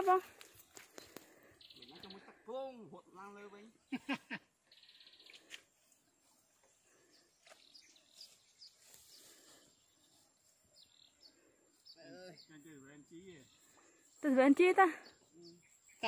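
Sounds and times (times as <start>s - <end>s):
faint high bird chirps: 1.0s - 3.0s, 3.9s - 16.0s.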